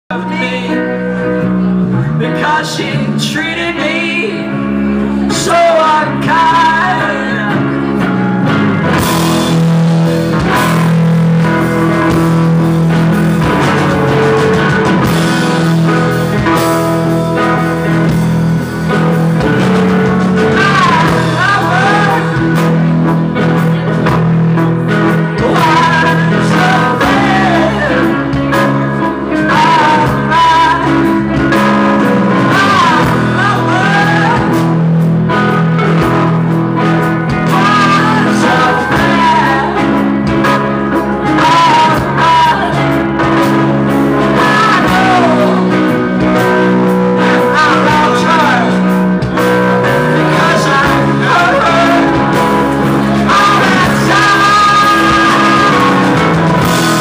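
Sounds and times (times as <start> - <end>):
live rock band playing: 0.1 - 57.0
person singing: 0.1 - 57.0.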